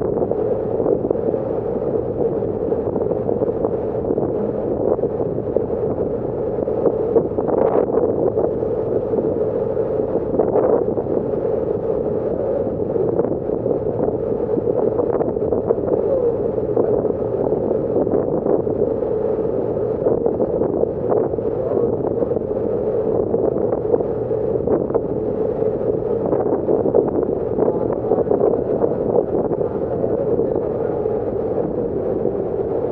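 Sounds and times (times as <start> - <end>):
wind on microphone: 0.0 - 32.9.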